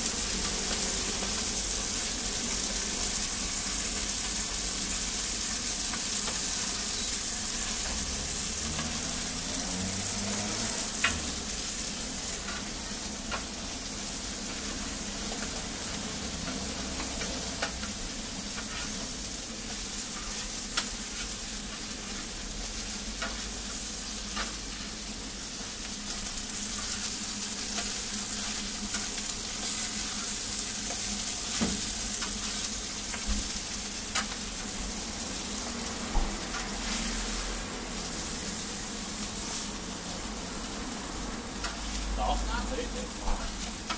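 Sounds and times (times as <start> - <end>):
pancakes sizzling on griddle: 0.0 - 43.9.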